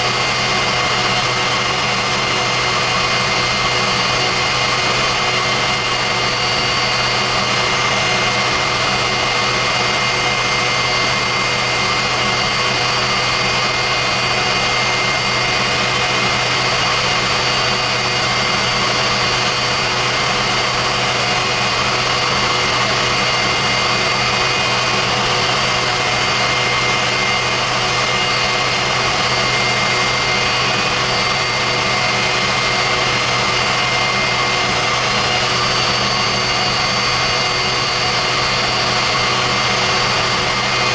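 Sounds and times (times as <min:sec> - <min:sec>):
jet engine whine and roar: 0:00.0 - 0:40.9.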